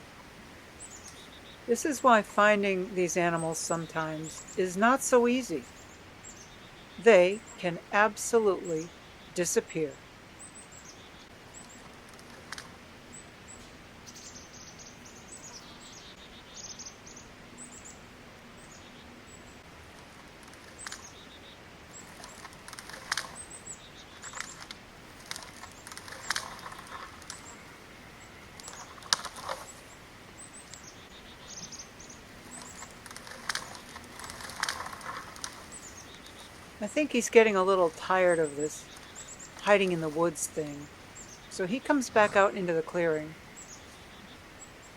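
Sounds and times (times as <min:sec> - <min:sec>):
crackling and rustling in brush: 0:00.0 - 0:44.9
small birds chirping: 0:00.0 - 0:44.9.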